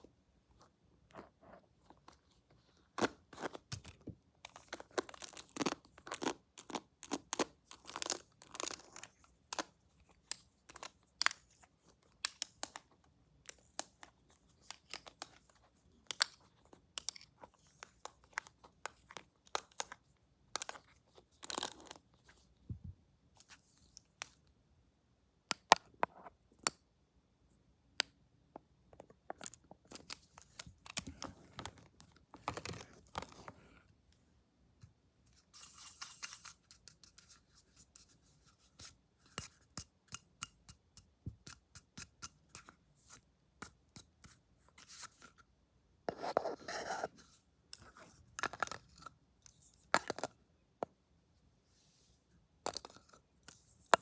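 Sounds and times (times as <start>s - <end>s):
crackles taps and crinkles: 0.0s - 24.6s, 28.0s - 51.1s, 52.5s - 54.0s.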